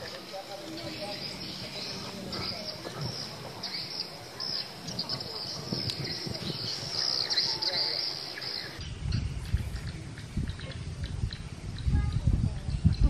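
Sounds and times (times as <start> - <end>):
insects calling: 0.0 - 12.0
birds chirping: 0.0 - 13.0.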